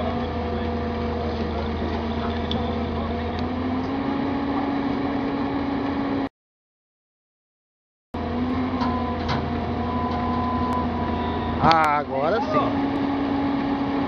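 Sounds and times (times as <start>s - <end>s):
engine running: 0.0s - 6.3s, 8.2s - 14.0s.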